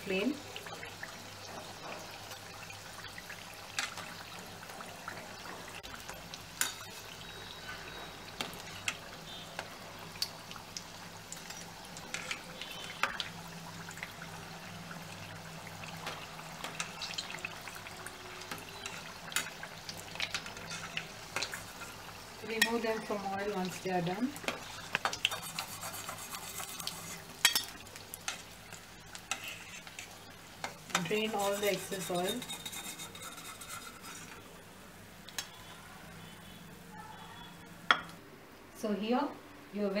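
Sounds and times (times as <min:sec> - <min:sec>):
deep-frying sizzle: 0:00.0 - 0:38.3.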